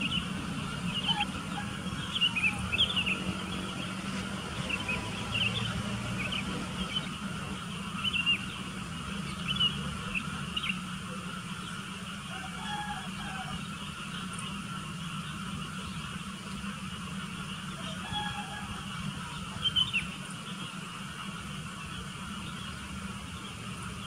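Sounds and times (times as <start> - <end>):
bulbuls chirping: 0.0 - 24.0
steady low hum: 0.0 - 24.0.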